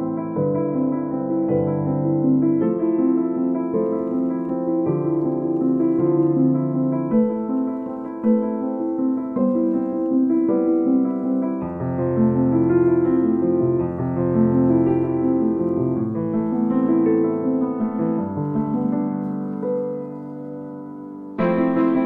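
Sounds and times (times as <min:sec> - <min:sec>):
piano chords: 0:00.0 - 0:22.0.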